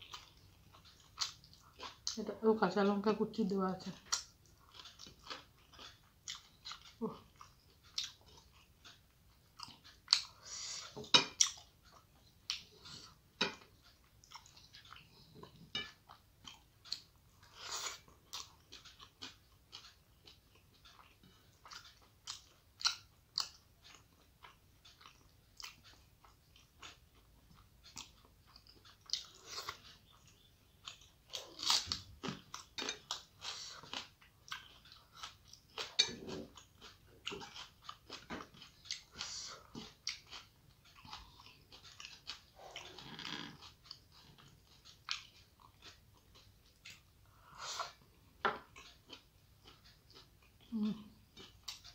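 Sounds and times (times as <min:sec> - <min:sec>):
person chewing food: 0:00.0 - 0:02.3, 0:03.8 - 0:51.9.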